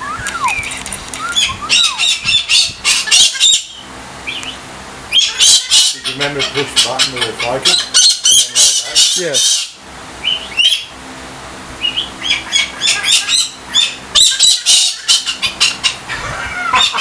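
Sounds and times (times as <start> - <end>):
cockatoo high calls: 0.0 - 11.0, 11.8 - 17.0.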